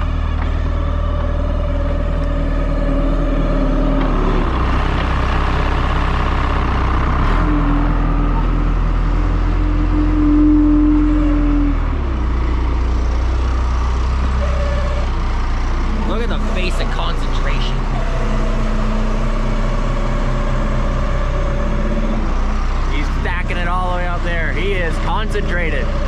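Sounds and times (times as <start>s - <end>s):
heavy machinery engine running: 0.0s - 26.0s
rising machine whine: 0.0s - 26.0s.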